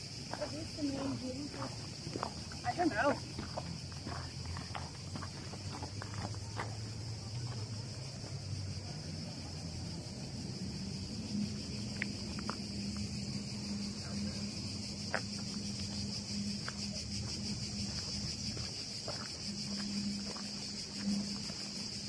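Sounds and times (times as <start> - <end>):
cicadas chirring: 0.0 - 22.0.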